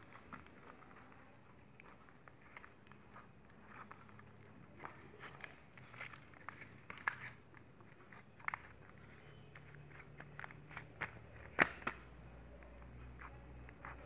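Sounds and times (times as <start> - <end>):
slime being kneaded by hand: 0.0 - 14.0.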